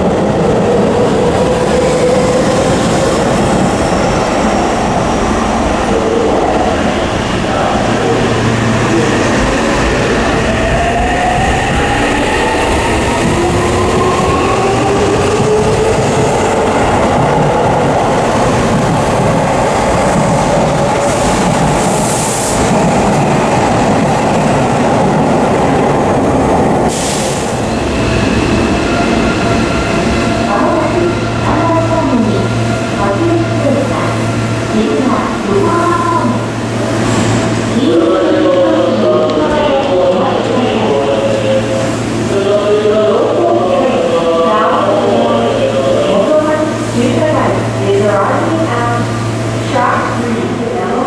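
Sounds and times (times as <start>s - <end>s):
wheels rumbling on rail: 0.0s - 51.0s.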